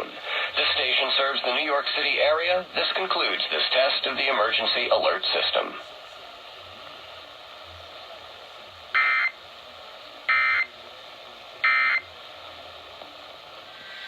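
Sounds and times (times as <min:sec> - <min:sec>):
radio hiss: 0:00.0 - 0:14.0.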